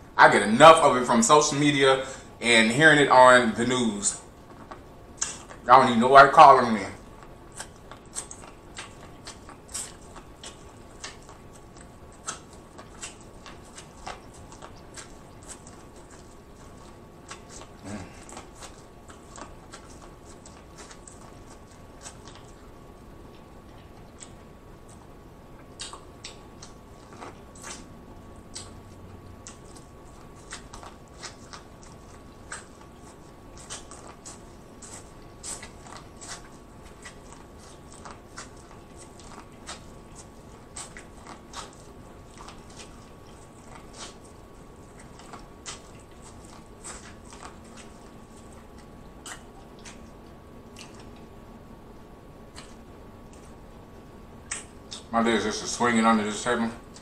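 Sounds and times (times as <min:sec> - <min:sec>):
faint steady hum: 0:00.0 - 0:57.0
chewing corn on the cob: 0:06.2 - 0:51.6, 0:52.4 - 0:55.2.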